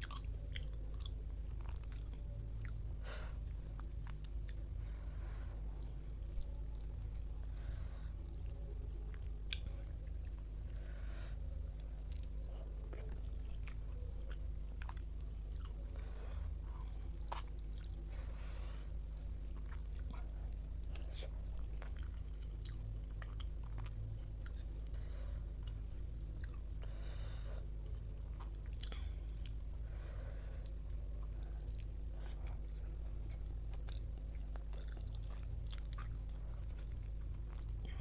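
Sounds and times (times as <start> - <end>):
person chewing: 0.0 - 2.8, 5.8 - 11.1, 11.7 - 38.0
steady low hum: 0.0 - 38.0.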